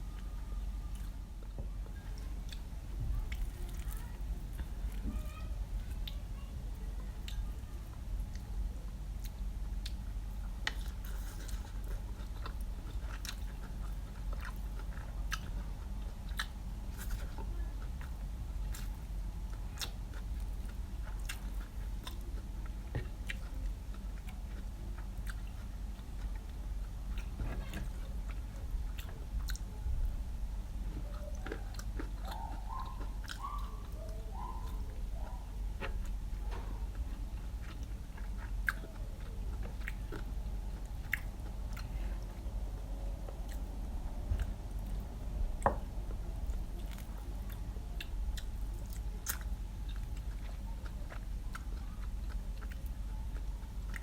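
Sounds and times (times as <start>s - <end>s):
steady low hum: 0.0s - 54.0s
person chewing food: 9.1s - 29.7s, 30.7s - 54.0s.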